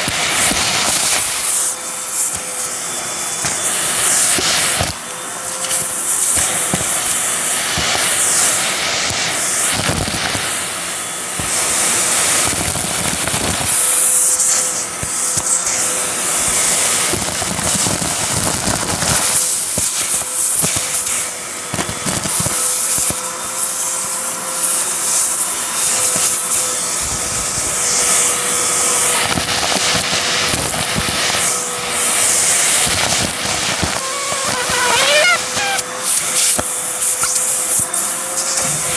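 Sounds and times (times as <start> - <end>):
debris crackling in hose: 0.0 - 38.9
vacuum cleaner motor whine: 0.0 - 38.9.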